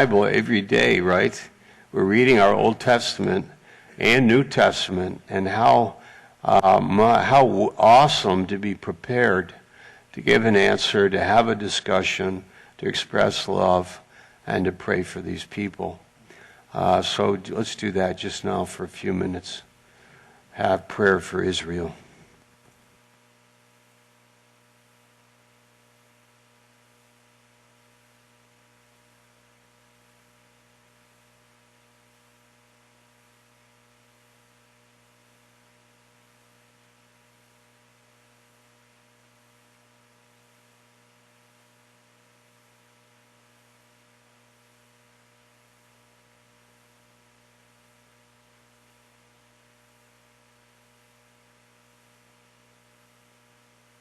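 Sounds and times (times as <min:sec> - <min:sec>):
faint electrical hum: 0:00.0 - 0:54.0.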